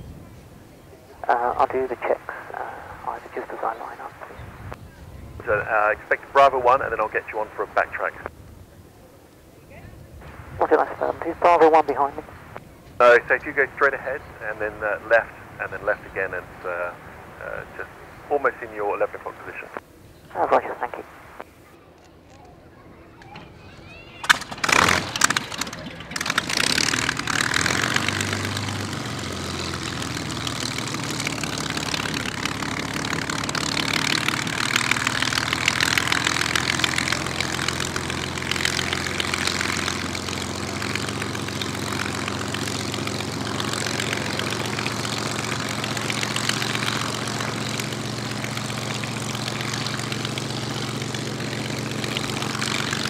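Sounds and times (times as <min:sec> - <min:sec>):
aircraft engine idling: 0:00.0 - 0:53.0
aircraft engine starting with bangs: 0:01.3 - 0:08.7, 0:10.2 - 0:20.3, 0:21.2 - 0:53.0.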